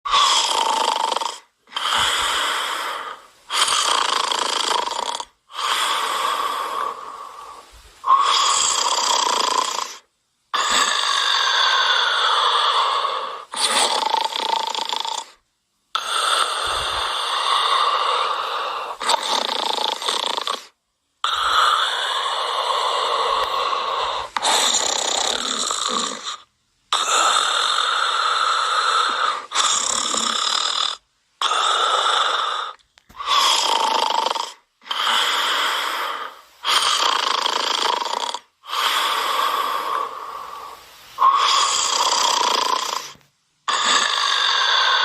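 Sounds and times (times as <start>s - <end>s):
loud snoring: 0.1s - 45.0s.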